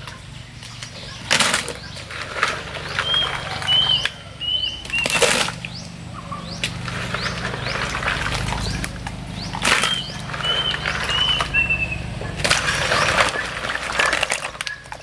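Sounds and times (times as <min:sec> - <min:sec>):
high bird chirps: 0:00.1 - 0:15.0
faint bird chirps: 0:02.8 - 0:15.0.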